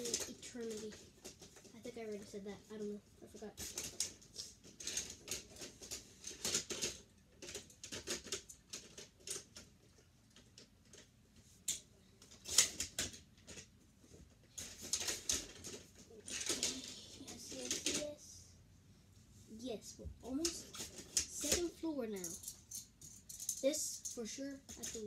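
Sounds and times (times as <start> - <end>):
toy cars and plastic clicking: 0.0 - 18.2, 20.2 - 25.0.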